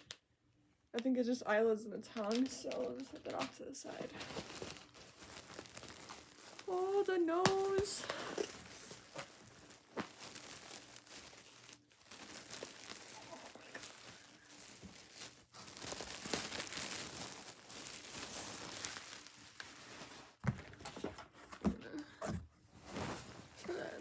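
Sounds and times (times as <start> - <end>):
packaging crinkling and rustling: 0.0 - 0.2, 2.0 - 21.4, 22.8 - 24.0.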